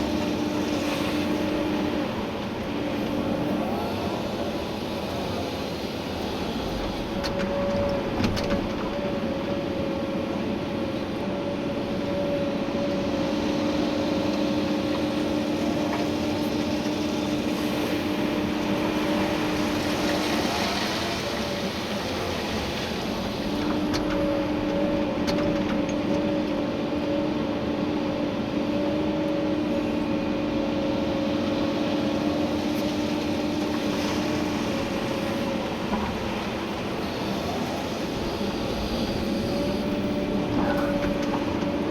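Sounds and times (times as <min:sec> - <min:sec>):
excavator engine and hydraulics hum: 0:00.0 - 0:41.9.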